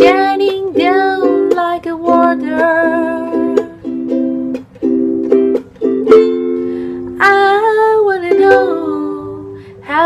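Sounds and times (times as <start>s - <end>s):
ukulele strummed in chords: 0.0s - 10.0s.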